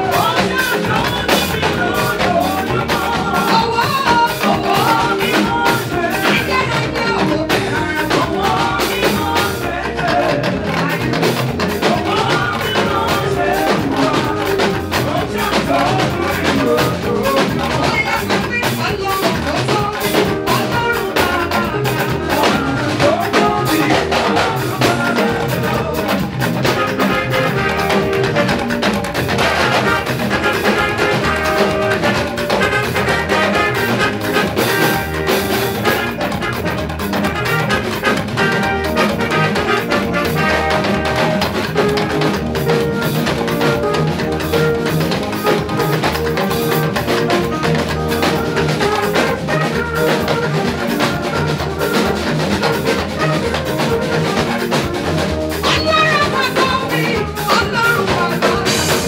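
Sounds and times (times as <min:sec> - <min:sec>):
woman singing lead: 0:00.0 - 0:50.3, 0:55.6 - 0:59.0
keyboard: 0:00.0 - 0:59.0
steady drum beat: 0:00.0 - 0:59.0
talking drums: 0:00.0 - 0:59.0.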